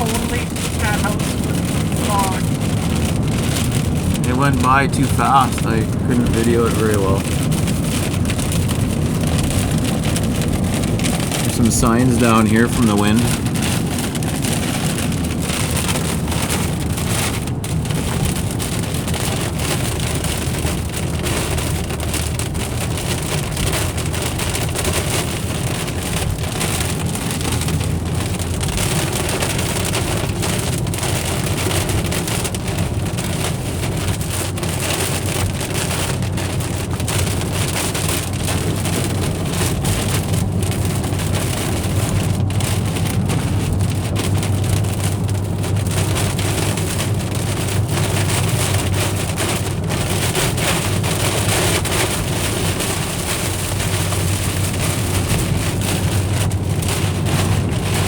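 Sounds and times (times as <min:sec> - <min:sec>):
rain pattering on car roof: 0:00.0 - 0:58.0
road and engine rumble: 0:00.0 - 0:58.0.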